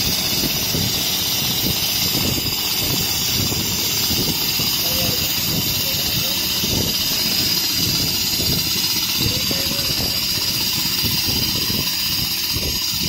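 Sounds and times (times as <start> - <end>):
sewing machine running: 0.0 - 13.0.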